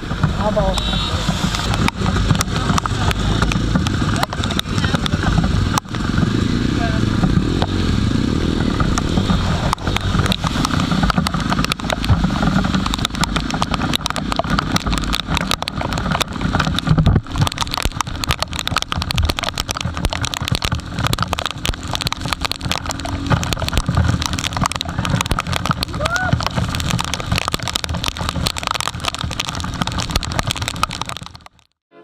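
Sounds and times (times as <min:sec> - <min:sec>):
motorcycle engine running: 0:00.0 - 0:31.4
noisy rush: 0:00.0 - 0:31.7
short crackles: 0:00.2 - 0:31.8.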